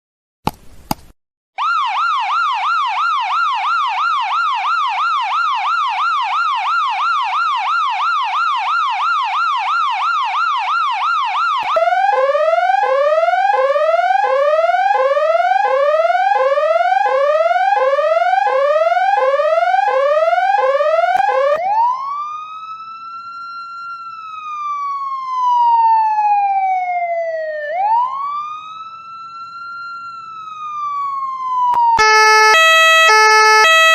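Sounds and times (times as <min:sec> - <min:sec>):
siren rising sweep: 0:01.6 - 0:33.9
siren slow wail: 0:01.6 - 0:33.9
siren yelp: 0:01.6 - 0:33.9.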